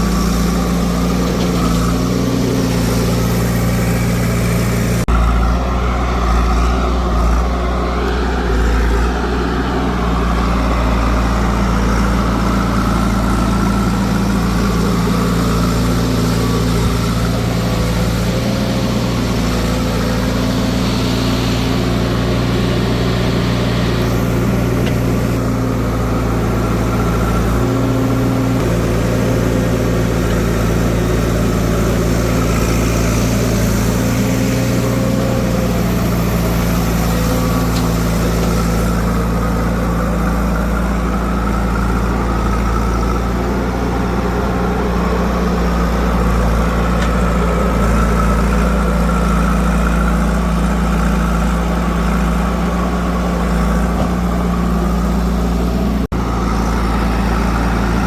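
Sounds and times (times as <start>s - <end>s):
diesel engines running at low revs: 0.0s - 58.0s.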